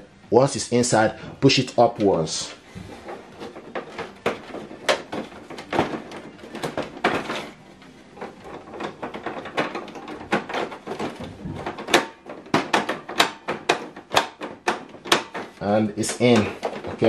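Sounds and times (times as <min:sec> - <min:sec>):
plastic clicks and knocks: 0:02.8 - 0:17.0.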